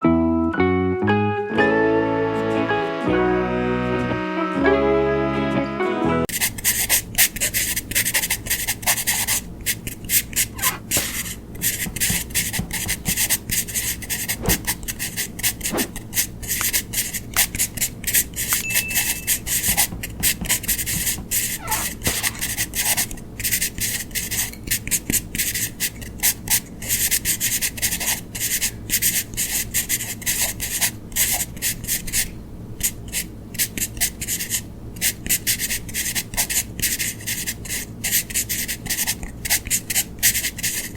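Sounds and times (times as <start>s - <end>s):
pencil scratching on paper: 6.3s - 40.9s.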